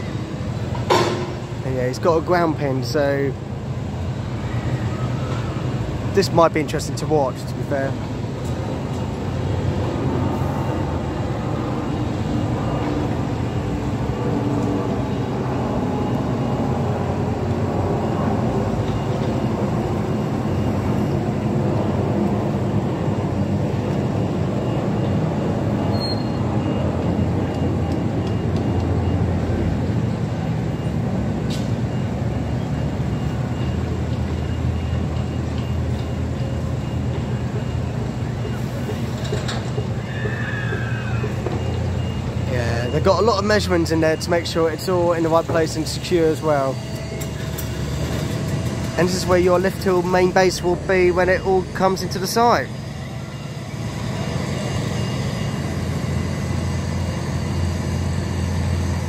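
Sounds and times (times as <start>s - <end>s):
diesel machinery engine rumble: 0.0s - 59.0s.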